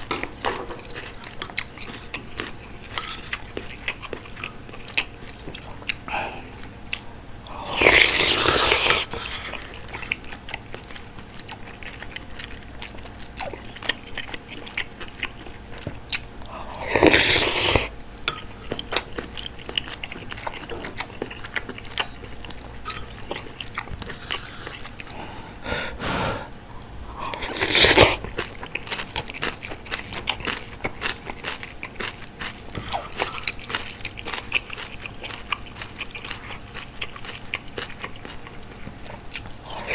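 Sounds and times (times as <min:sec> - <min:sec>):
wet chewing: 0:00.0 - 0:25.3, 0:26.4 - 0:39.9.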